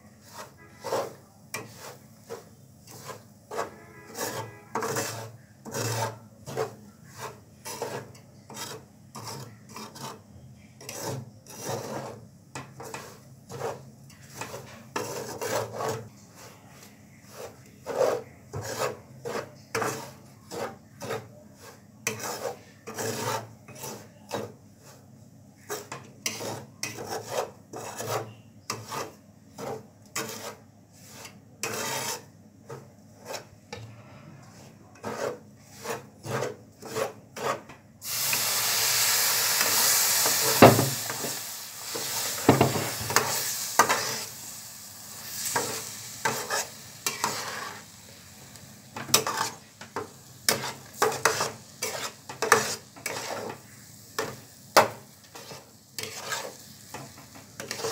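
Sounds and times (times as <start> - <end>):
metal spatula scraping a pan: 0.0 - 57.9.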